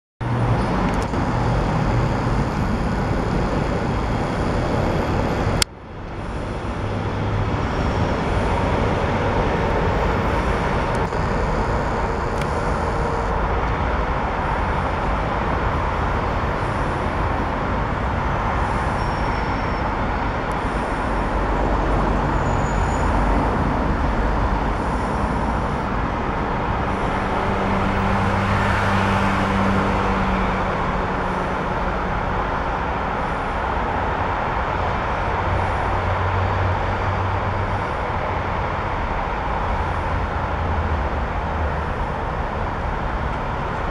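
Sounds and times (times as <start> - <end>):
motorway traffic: 0.2 - 43.9.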